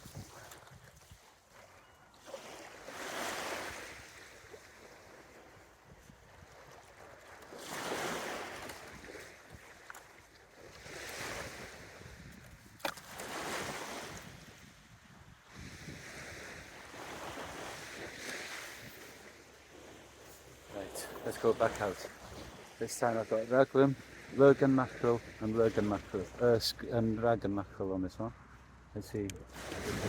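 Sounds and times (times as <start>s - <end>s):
small waves breaking on beach: 0.0s - 27.4s, 29.4s - 30.0s.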